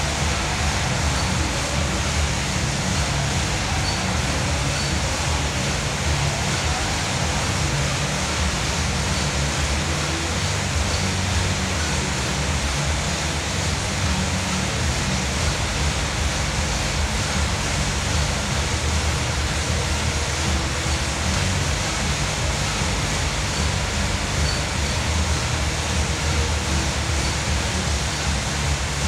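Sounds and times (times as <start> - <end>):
air bike fan whooshing: 0.0 - 29.0.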